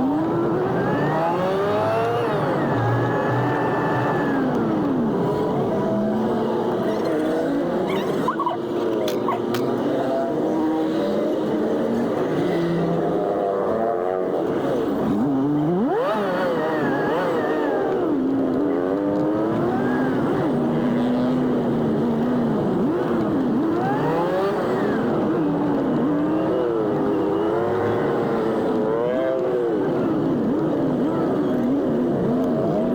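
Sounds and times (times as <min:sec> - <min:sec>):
road traffic: 0:00.0 - 0:32.9.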